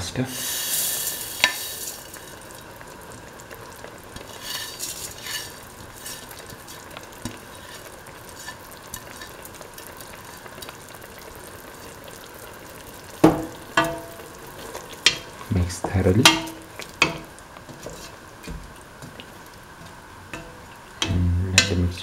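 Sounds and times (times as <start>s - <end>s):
stew bubbling in a pot: 0.0s - 22.0s
crackles: 0.2s - 22.0s.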